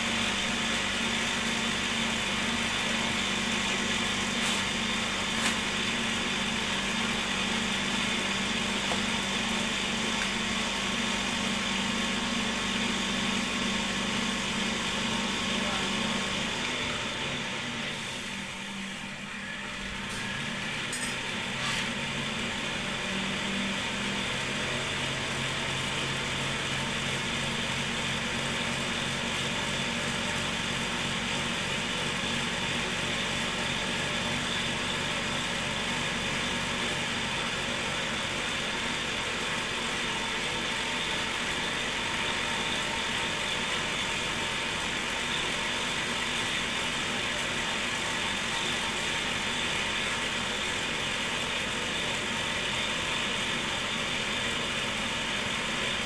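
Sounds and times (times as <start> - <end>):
cotton candy machine whirring: 0.0 - 56.0.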